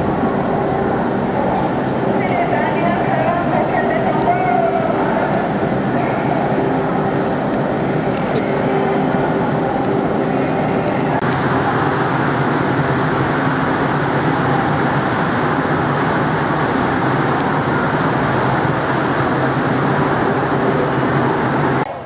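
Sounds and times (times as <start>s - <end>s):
constant rushing noise: 0.0s - 22.0s
low machinery drone: 0.0s - 22.0s.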